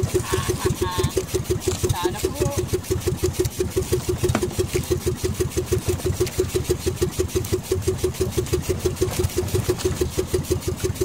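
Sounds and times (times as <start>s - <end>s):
boat engine running at low speed: 0.0s - 11.0s.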